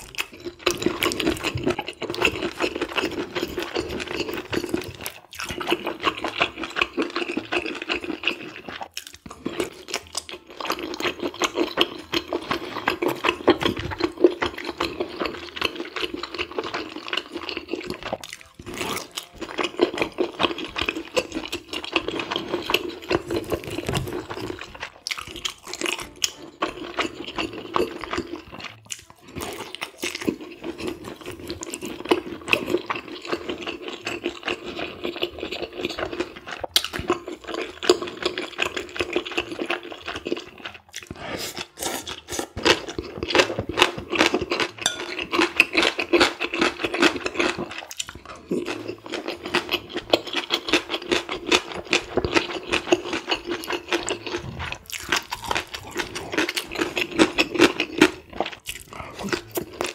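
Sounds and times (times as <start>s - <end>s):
person chewing wetly: 0.0s - 59.9s.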